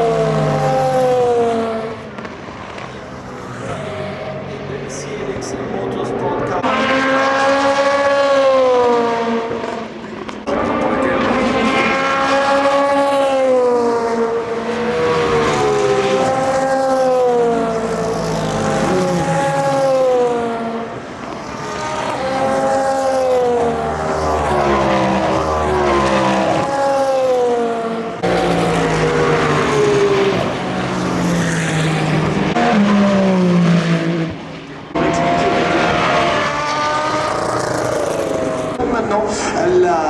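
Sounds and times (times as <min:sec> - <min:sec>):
race car engines revving past: 0:00.0 - 0:40.0.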